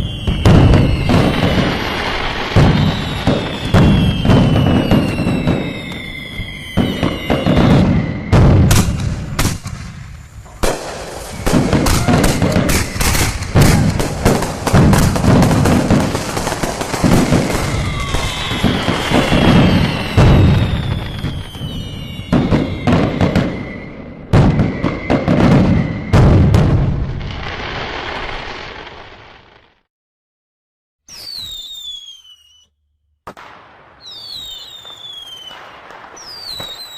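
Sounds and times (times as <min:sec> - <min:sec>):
falling firework whistles: 0:00.0 - 0:29.7, 0:31.1 - 0:36.9
fireworks bangs and crackling: 0:00.0 - 0:29.9, 0:31.1 - 0:32.6, 0:33.2 - 0:36.9.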